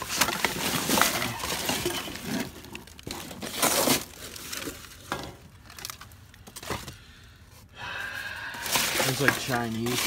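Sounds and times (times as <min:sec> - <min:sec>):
plastic bags rustling and crinkling: 0:00.0 - 0:07.1, 0:08.3 - 0:10.0.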